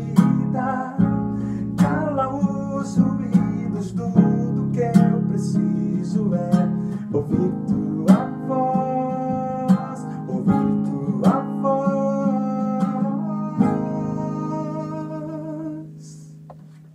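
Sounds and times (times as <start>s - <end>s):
classical guitar strumming: 0.0s - 16.9s.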